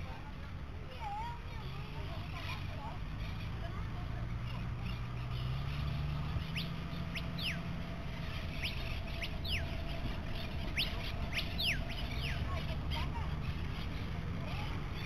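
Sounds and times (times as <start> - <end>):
birds chirping downward calls: 1.9 - 15.0.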